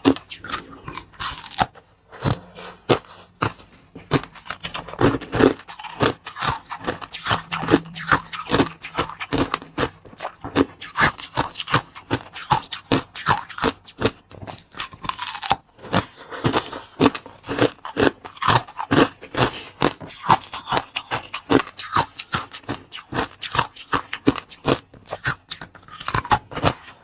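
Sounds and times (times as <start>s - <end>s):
person chewing: 0.0s - 27.0s
person crunching food: 0.0s - 27.0s.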